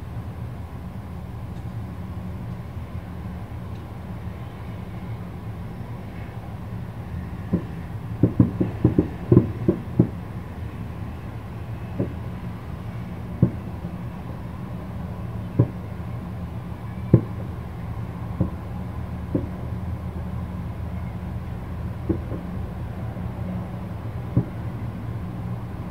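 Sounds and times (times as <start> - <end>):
low background rumble: 0.0 - 25.9.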